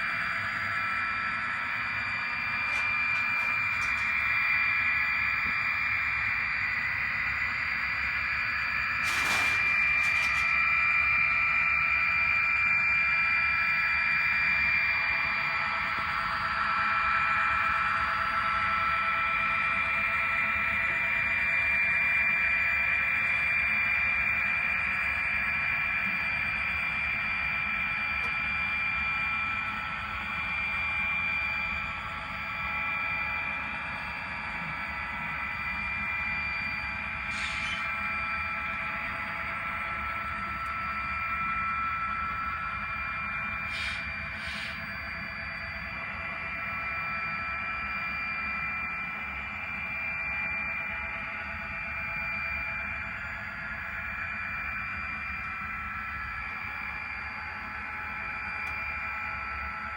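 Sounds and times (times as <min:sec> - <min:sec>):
model train whine: 0:00.0 - 0:59.9.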